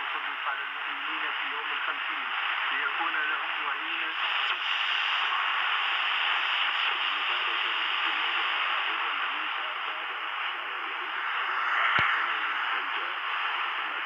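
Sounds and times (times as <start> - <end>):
faint radio station: 0.0 - 14.0
radio static hiss: 0.0 - 14.0.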